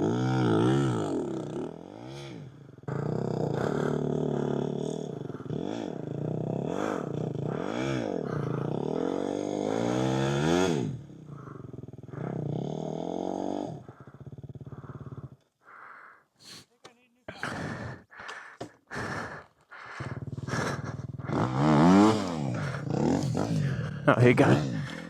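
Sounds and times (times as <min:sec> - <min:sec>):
dirt bike engine revving: 0:00.0 - 0:15.4, 0:18.9 - 0:25.0.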